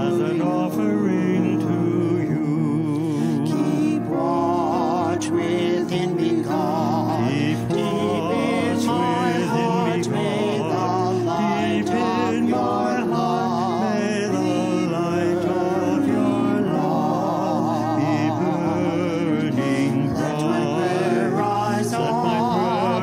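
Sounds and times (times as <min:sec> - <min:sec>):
grand piano: 0:00.0 - 0:23.0
group singing a hymn: 0:00.0 - 0:23.0.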